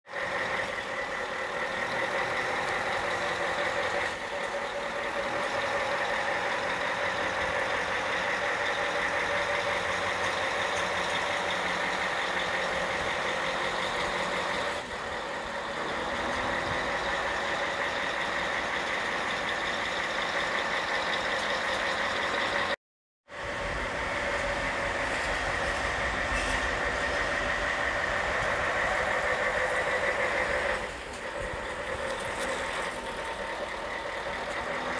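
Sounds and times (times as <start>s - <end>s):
truck diesel engines droning: 0.1s - 34.9s.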